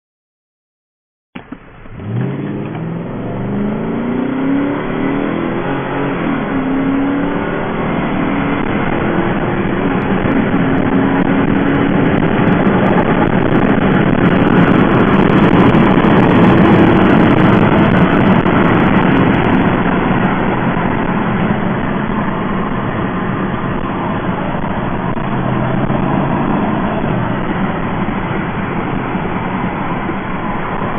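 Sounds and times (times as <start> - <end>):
car engine accelerating hard: 1.4 - 30.9.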